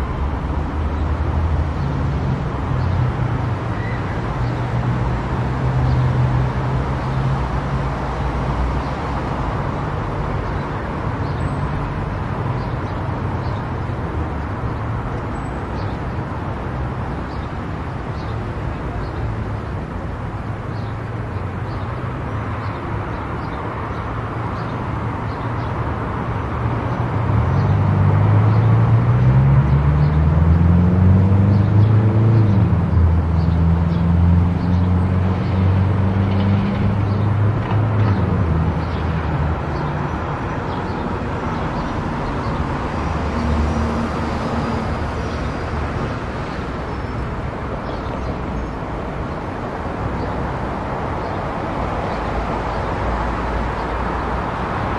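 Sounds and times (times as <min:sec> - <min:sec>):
road and tyre noise: 0:00.0 - 0:54.9.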